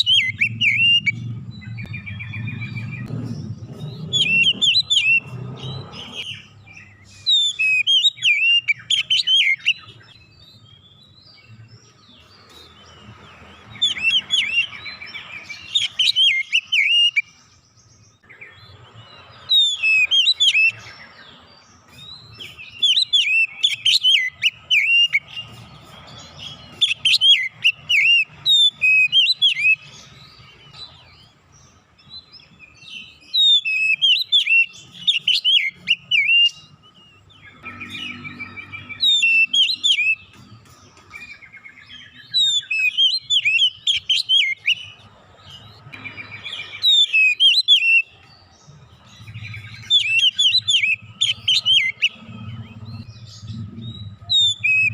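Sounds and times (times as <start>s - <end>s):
bird singing chirps and whistles: 0.0s - 54.9s.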